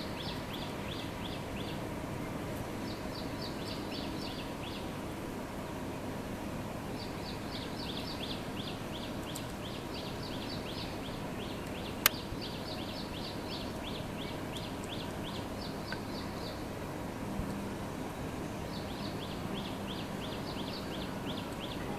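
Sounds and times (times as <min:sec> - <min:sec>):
steady background hiss: 0:00.0 - 0:21.9.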